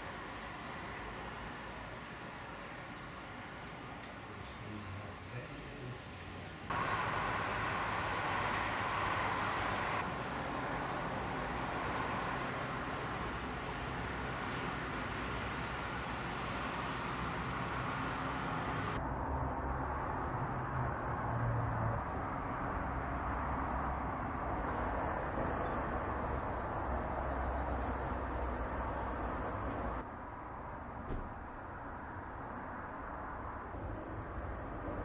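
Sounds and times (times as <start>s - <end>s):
distant road traffic rumble: 0.0s - 35.0s.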